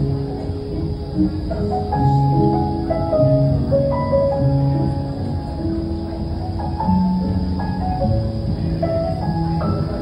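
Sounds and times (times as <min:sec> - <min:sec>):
music with held notes: 0:00.0 - 0:10.0.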